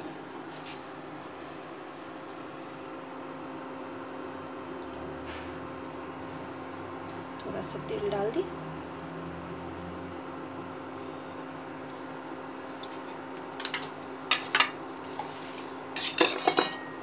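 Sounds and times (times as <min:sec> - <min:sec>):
induction cooktop hum: 0:00.0 - 0:17.0.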